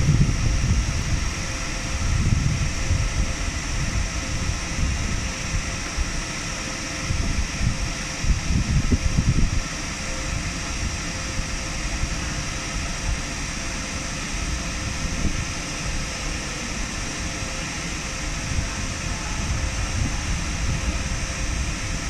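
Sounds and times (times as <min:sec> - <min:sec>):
electric locomotive fans humming: 0:00.0 - 0:22.0.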